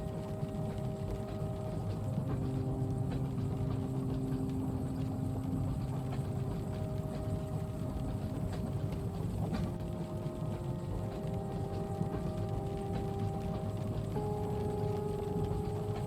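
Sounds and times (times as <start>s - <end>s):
low rumble of moving train: 0.0s - 16.0s.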